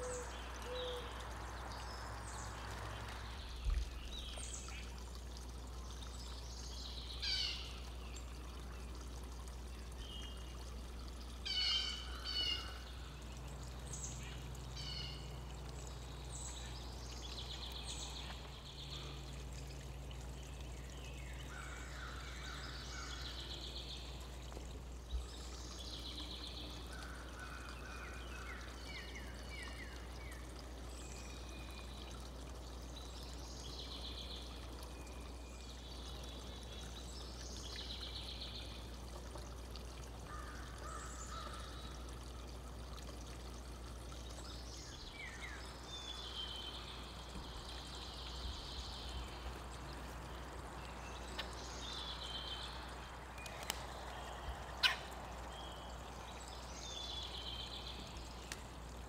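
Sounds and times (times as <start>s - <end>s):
background hiss and hum: 0.0s - 59.0s
songbirds chirping: 0.0s - 59.0s.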